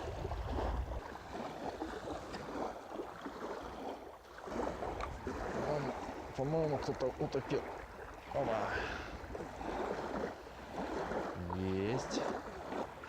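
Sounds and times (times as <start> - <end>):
gusty wind on microphone: 0.0 - 11.4
small waves lapping: 0.0 - 13.0.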